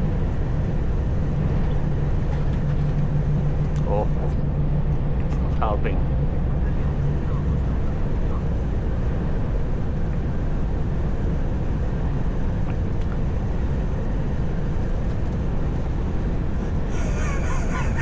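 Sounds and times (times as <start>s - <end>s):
road noise: 0.0s - 18.0s
truck engine rumble in cab: 0.0s - 18.0s.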